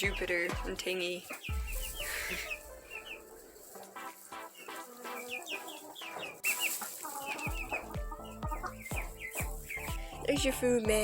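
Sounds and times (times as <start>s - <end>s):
rustling: 0.0s - 10.4s
baby chicks peeping: 0.0s - 11.0s.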